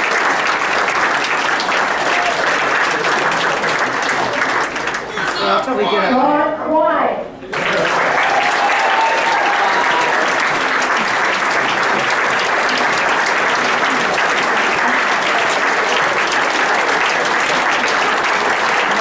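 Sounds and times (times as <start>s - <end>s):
crowd applauding: 0.0s - 5.6s, 7.5s - 19.0s.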